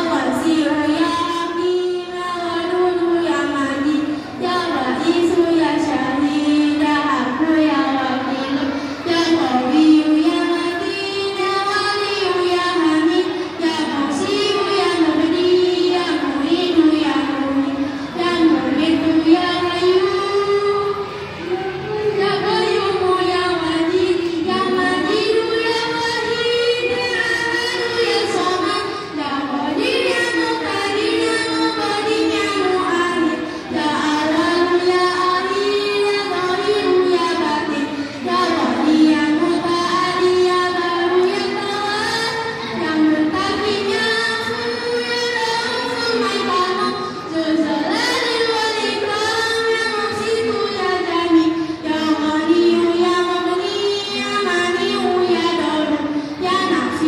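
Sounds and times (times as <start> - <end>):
child singing long held notes: 0.0 - 57.0.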